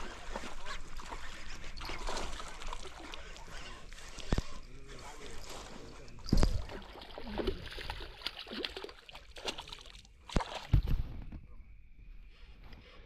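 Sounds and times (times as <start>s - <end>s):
water splashing and sloshing: 0.0s - 11.4s.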